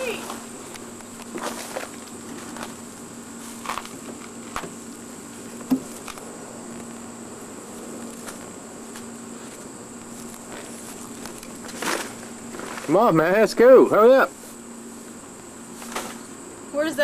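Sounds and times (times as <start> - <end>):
steady low hum: 0.0 - 17.0
thin high whine: 0.0 - 17.0.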